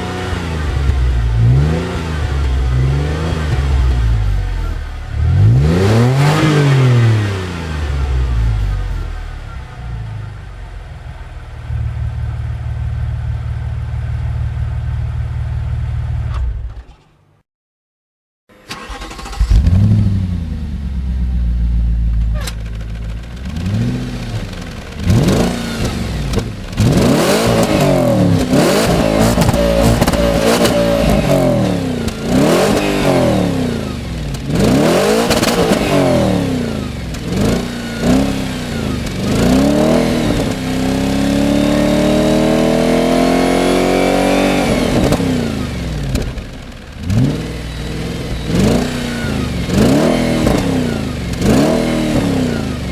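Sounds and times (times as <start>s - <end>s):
car engine revving: 0.0s - 9.6s, 18.7s - 52.9s.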